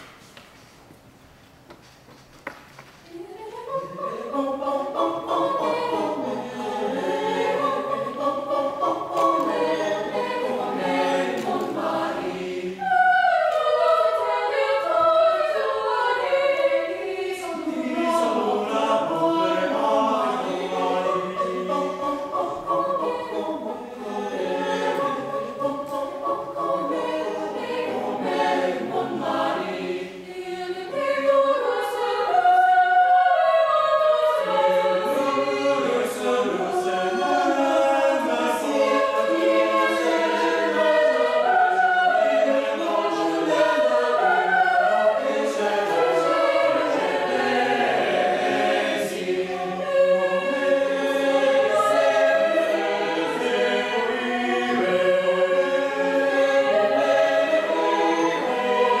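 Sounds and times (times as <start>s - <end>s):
mixed choir singing in harmony: 3.1s - 59.0s.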